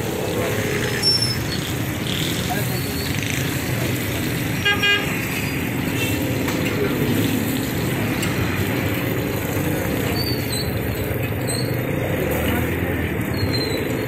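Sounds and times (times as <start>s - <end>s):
kebabs sizzling on a griddle: 0.0s - 14.0s
street traffic noise: 0.0s - 14.0s.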